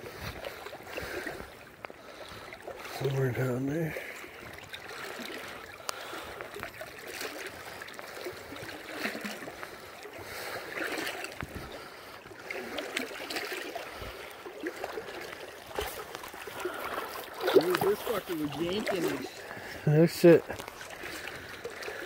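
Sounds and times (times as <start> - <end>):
river water running and splashing: 0.0 - 22.0.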